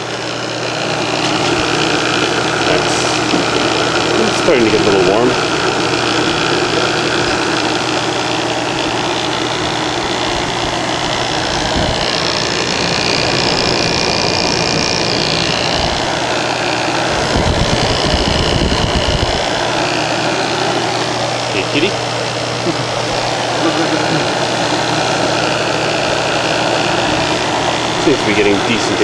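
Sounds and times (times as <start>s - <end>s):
compressor humming: 0.0s - 29.0s
fan blowing air: 0.0s - 29.0s.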